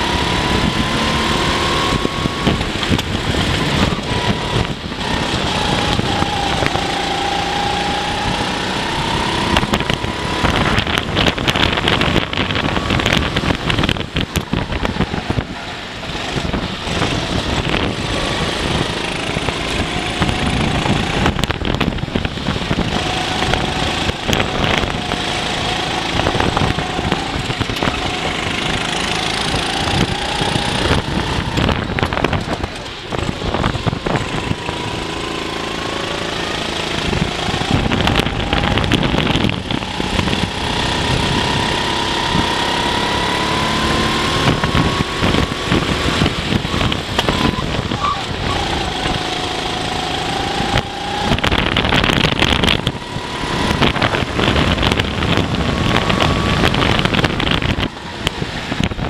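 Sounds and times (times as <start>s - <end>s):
kart engine revving: 0.0s - 59.0s
rush of wind: 0.0s - 59.0s.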